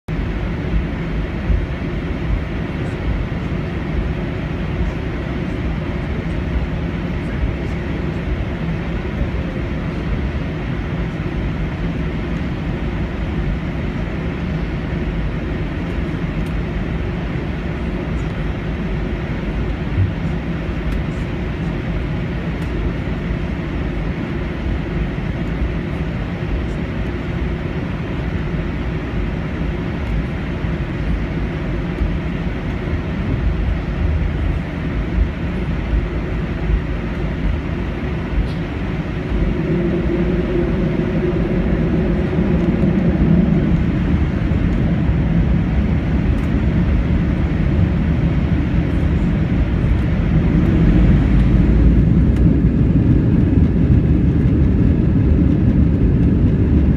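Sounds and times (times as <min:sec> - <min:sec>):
jet engines rumbling: 0:00.1 - 0:56.9.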